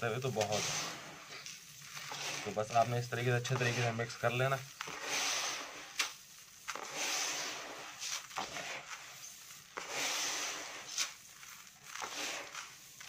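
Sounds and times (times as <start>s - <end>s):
birdseed rustling by hand: 0.0s - 13.0s.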